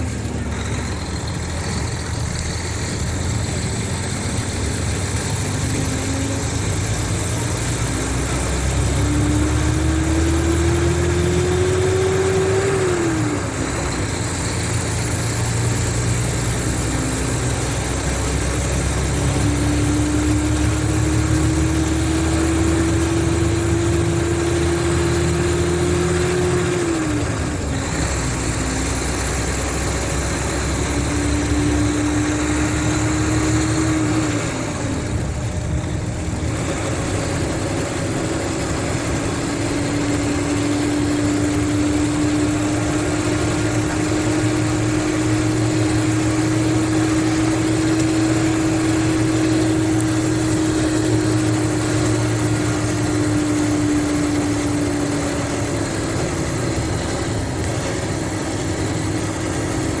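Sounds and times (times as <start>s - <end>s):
diesel engine drone: 0.0s - 60.0s.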